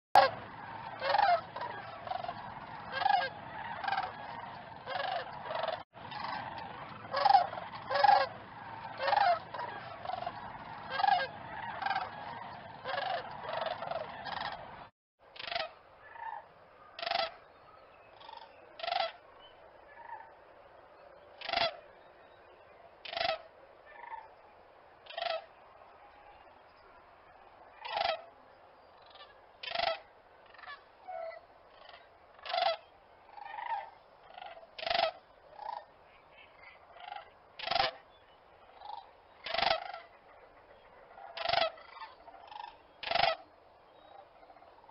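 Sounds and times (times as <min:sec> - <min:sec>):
cranes calling: 0:00.2 - 0:20.4, 0:21.2 - 0:21.9, 0:23.0 - 0:24.4, 0:25.0 - 0:26.5, 0:27.7 - 0:44.9
steady background hiss: 0:00.2 - 0:44.9.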